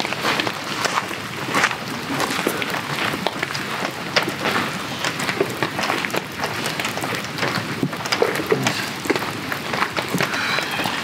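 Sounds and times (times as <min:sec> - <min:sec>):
heavy rain in forest: 0:00.0 - 0:11.0.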